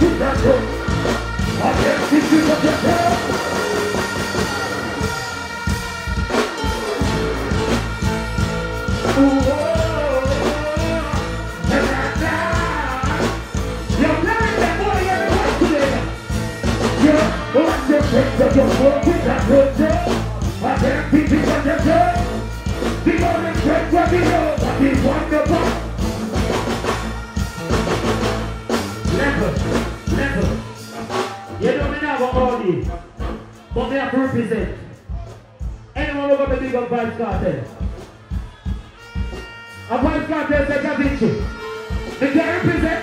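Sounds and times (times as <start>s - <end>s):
man deejaying into microphone: 0.0s - 5.7s, 8.9s - 26.0s, 28.9s - 30.9s, 31.5s - 37.9s, 39.2s - 43.0s
dancehall bass and drum beat: 0.0s - 43.0s.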